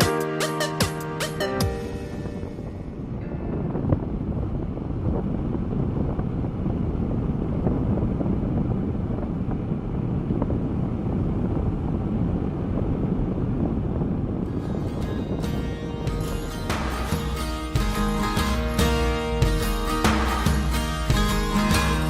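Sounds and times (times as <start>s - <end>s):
road noise: 1.4s - 22.0s
wind buffeting microphone: 1.7s - 22.0s.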